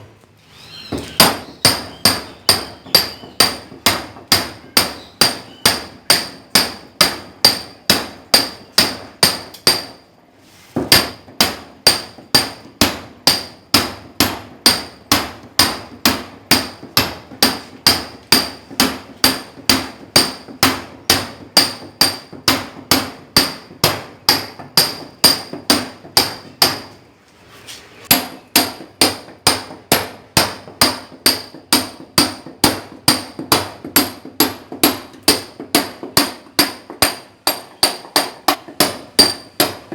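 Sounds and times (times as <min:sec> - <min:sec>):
hammer striking steel chisel: 0:01.0 - 0:10.1, 0:10.8 - 0:27.0, 0:28.1 - 0:39.9.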